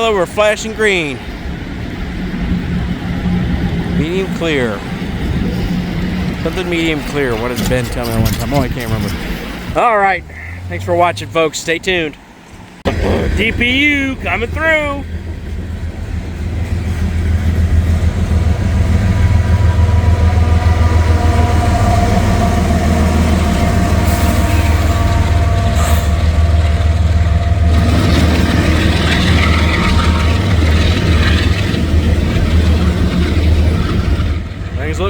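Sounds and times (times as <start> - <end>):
diesel locomotive engine drone: 0.0 - 35.0
freight cars wheel and rail noise: 0.0 - 35.0.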